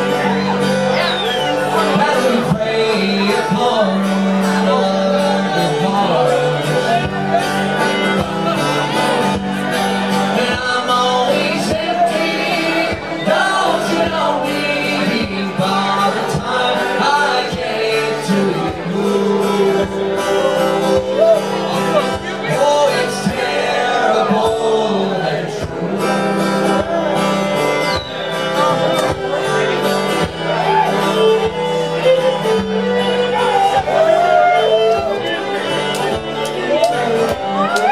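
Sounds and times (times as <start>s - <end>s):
fiddle melody: 0.0s - 37.9s
strummed acoustic guitar: 0.0s - 37.9s.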